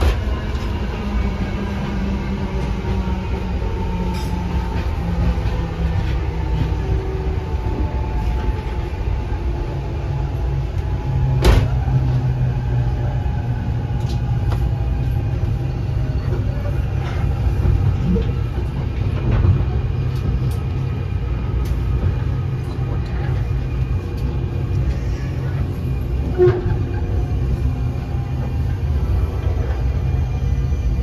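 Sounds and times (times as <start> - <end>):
railcar running rumble: 0.0 - 31.0.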